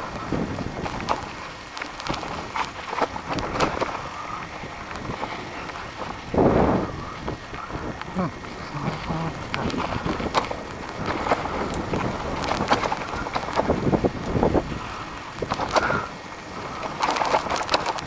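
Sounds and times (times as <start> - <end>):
bicycle rattling over dirt trail: 0.0 - 18.0
wind buffeting microphone: 0.0 - 18.0.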